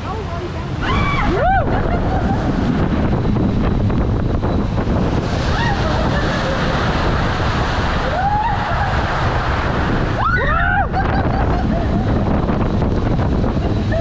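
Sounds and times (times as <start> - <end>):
wind on microphone: 0.0 - 14.0
water rushing in slide tube: 0.8 - 14.0.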